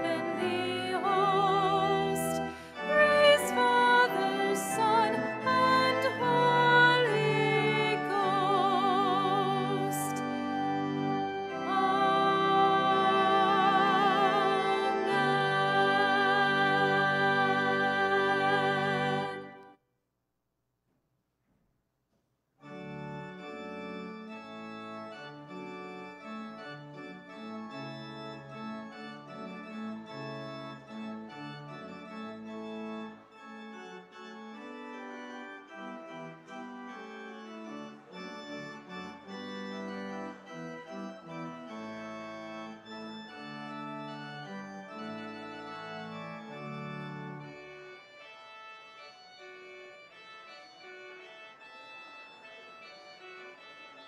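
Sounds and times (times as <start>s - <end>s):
organ music: 0.0s - 19.8s, 22.6s - 54.0s.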